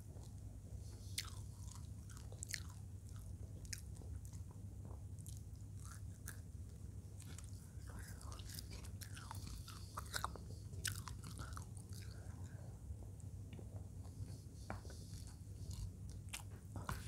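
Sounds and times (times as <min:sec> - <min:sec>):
person chewing food: 0:00.1 - 0:17.0.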